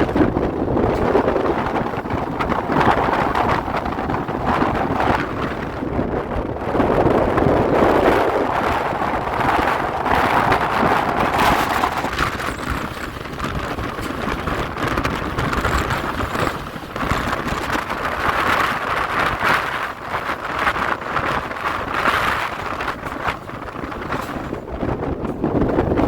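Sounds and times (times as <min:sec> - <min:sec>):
passenger train running: 0:00.0 - 0:26.0
wind buffeting microphone: 0:00.0 - 0:26.0.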